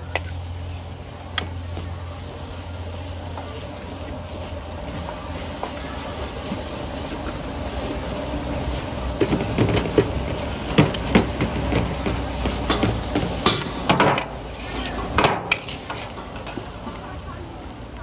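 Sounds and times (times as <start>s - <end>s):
gas burner rumble: 0.0s - 18.0s.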